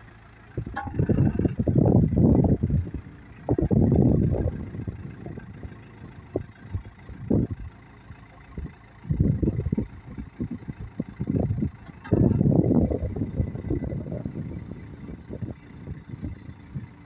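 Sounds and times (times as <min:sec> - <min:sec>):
diesel engine running: 0:00.0 - 0:17.0
wind buffeting microphone: 0:00.5 - 0:17.0.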